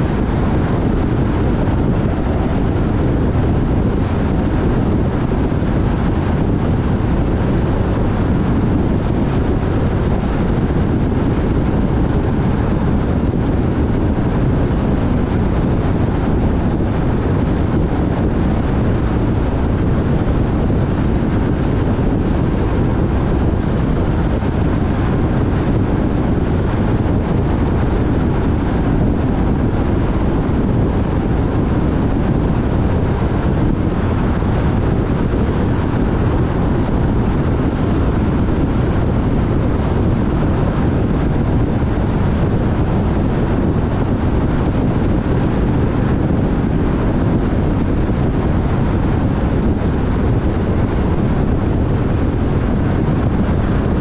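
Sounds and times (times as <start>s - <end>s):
car road and wind noise: 0.0s - 54.0s.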